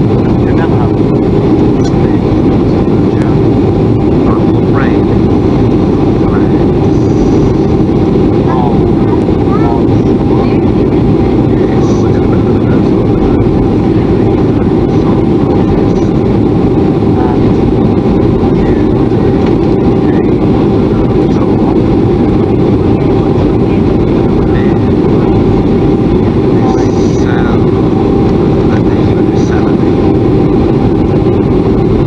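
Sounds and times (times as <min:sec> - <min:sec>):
air rushing over fuselage: 0:00.0 - 0:32.0
airplane cabin engine rumble: 0:00.0 - 0:32.0.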